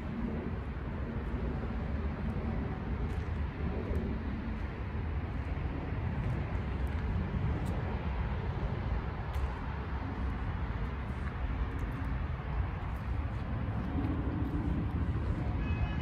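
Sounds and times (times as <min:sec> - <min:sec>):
steady low outdoor rumble: 0:00.0 - 0:16.0.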